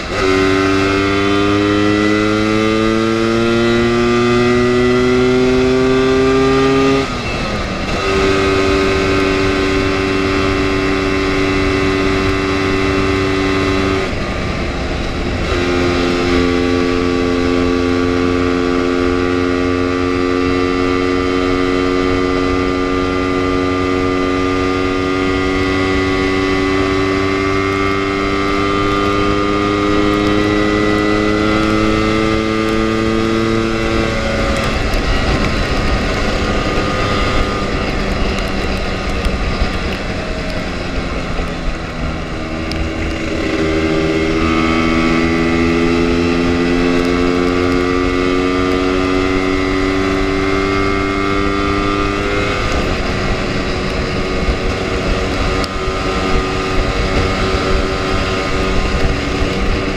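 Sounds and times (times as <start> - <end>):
scooter engine running: 0.0 - 59.9
wind noise on microphone: 0.0 - 59.9.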